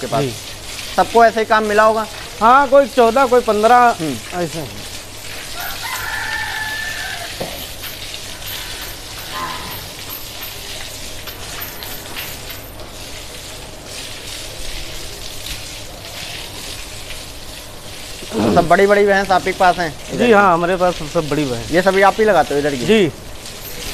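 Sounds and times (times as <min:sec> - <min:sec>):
water jetting from a hose: 0:00.0 - 0:23.9.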